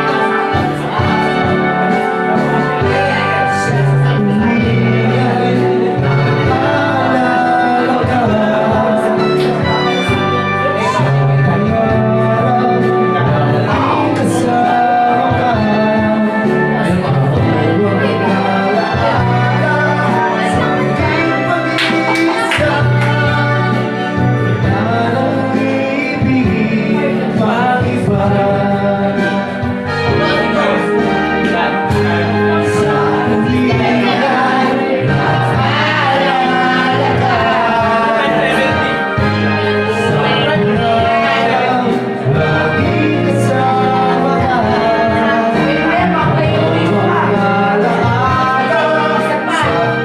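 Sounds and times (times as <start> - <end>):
backing music: 0.0 - 50.0
man singing karaoke: 0.0 - 50.0.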